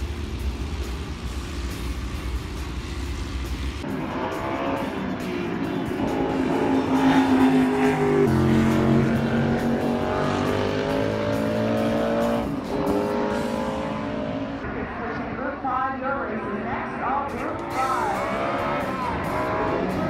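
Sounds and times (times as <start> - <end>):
race car engine running hard: 0.0 - 15.4, 17.3 - 20.0.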